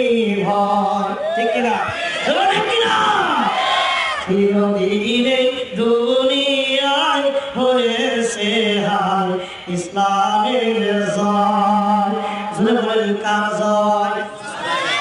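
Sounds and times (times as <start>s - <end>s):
man singing into a microphone: 0.0s - 3.5s, 4.2s - 14.6s.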